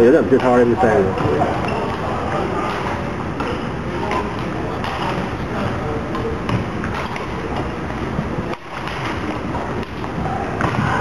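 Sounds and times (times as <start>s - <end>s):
hubbub of background noise: 0.0s - 11.0s.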